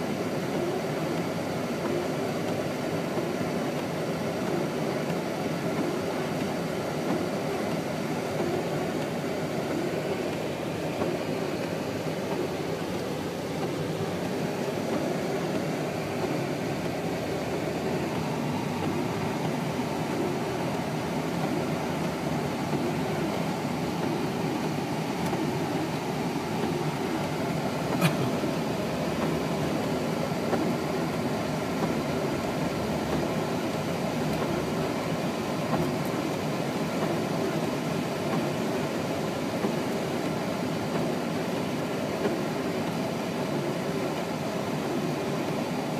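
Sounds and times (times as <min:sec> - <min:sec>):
car cabin noise: 0:00.0 - 0:45.9.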